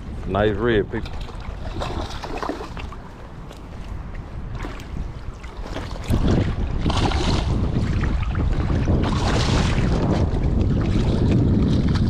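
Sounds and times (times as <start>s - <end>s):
wind rumbling on microphone: 0.0s - 12.0s
water splashing: 0.8s - 12.0s.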